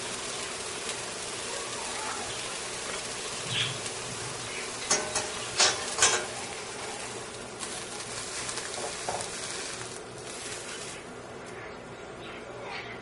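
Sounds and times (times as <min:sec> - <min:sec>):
pancake sizzling in frying pan: 0:00.0 - 0:11.2.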